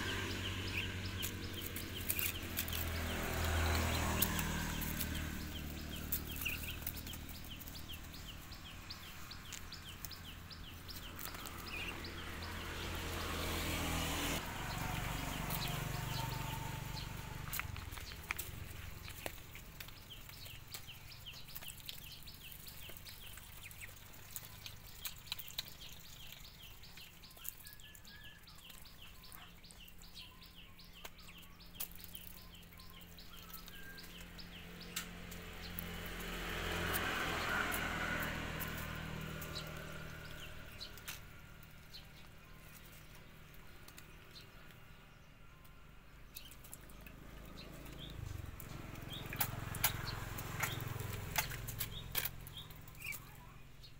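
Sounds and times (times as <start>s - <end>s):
ducks pecking dry leaves: 0.0s - 45.2s, 45.8s - 53.9s
small bird chirping: 0.0s - 53.9s.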